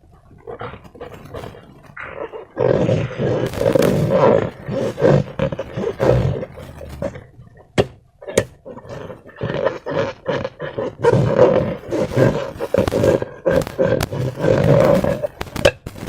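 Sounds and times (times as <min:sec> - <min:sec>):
balloons squeaking and rasping: 0:00.9 - 0:07.2, 0:08.7 - 0:16.0.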